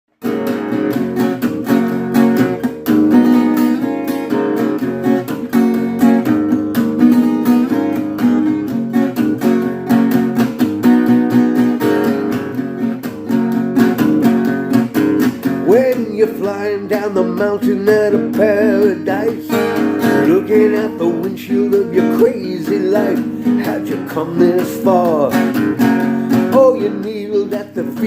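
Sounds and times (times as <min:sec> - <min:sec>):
strummed acoustic guitar: 0:00.1 - 0:28.0.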